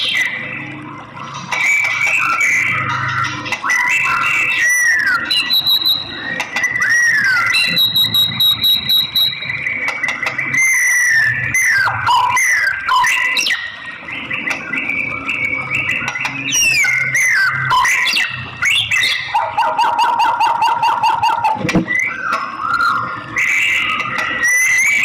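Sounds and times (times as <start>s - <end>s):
bird singing whistles: 3.6s - 25.0s.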